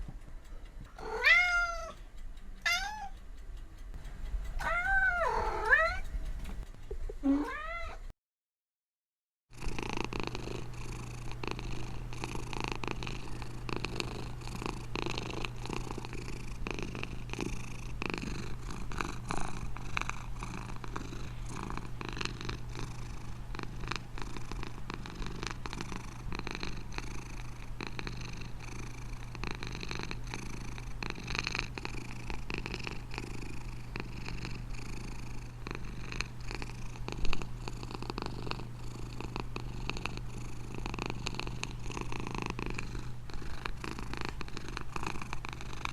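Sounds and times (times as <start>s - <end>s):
cat purring: 0.8s - 2.0s, 2.6s - 3.2s, 4.3s - 8.1s, 9.6s - 45.9s.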